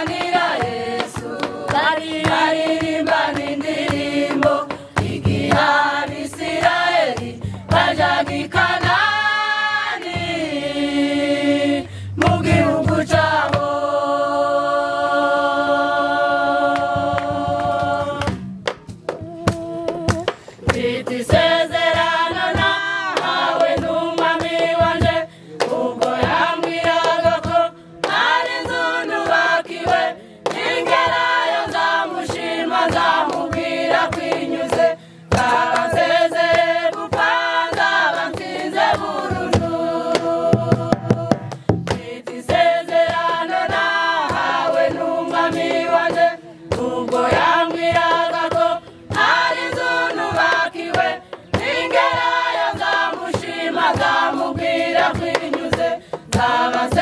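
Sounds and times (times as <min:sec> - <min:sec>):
women's choir singing unaccompanied: 0:00.0 - 0:18.6, 0:19.2 - 0:57.0.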